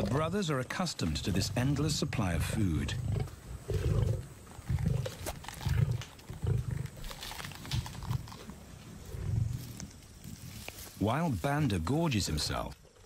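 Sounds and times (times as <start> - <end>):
lions growling: 0.0 - 10.6.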